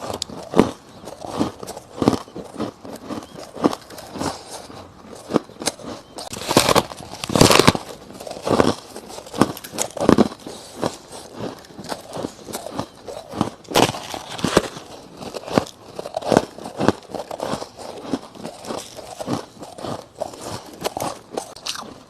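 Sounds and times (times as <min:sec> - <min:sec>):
crunching ice: 0:00.0 - 0:22.0.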